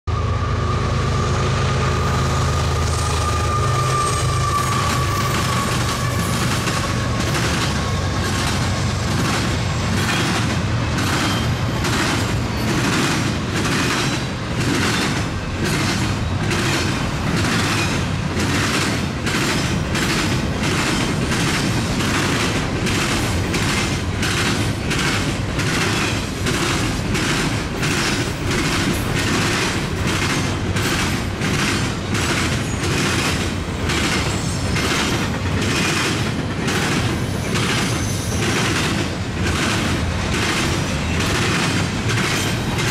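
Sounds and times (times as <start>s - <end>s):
freight train rumble: 0.0s - 42.9s
train wheel clacks: 2.8s - 42.9s.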